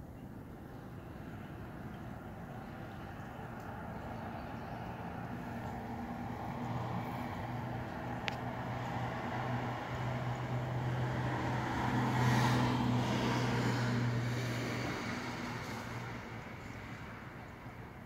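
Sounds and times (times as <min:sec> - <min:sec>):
vehicle passing: 0:01.3 - 0:18.0.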